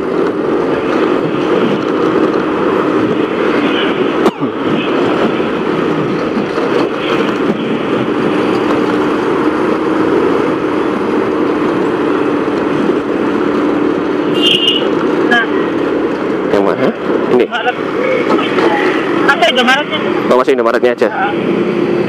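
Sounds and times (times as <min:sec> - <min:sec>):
motorcycle engine: 0:00.0 - 0:20.6.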